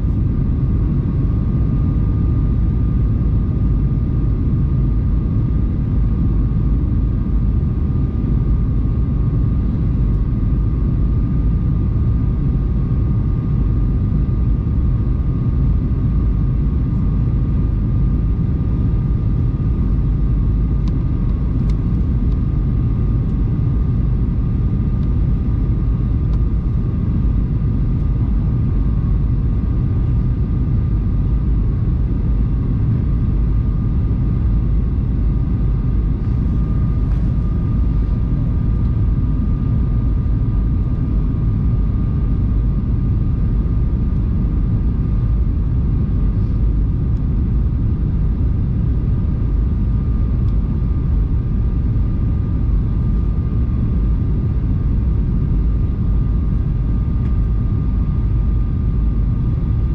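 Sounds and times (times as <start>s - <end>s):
faint engine whine: 0.0s - 59.9s
jet cabin engine rumble: 0.0s - 59.9s.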